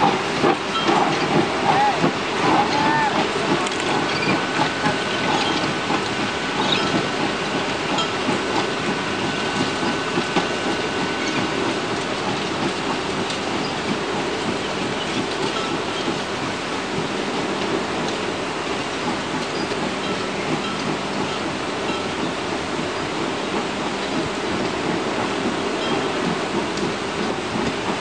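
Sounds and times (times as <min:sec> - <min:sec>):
train wheels rolling over rail joints: 0:00.0 - 0:28.0.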